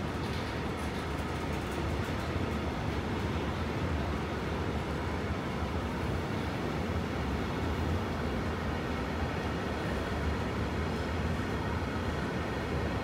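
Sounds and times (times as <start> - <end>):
freight train wheels rumbling on rails: 0.0 - 13.0.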